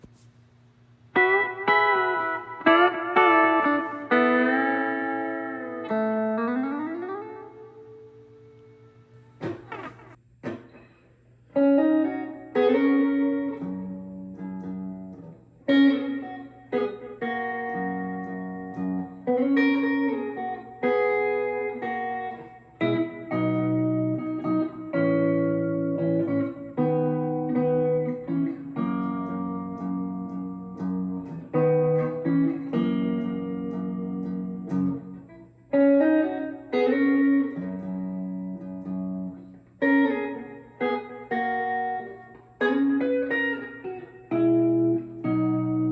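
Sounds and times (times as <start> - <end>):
electric guitar chords ringing: 1.1 - 45.9.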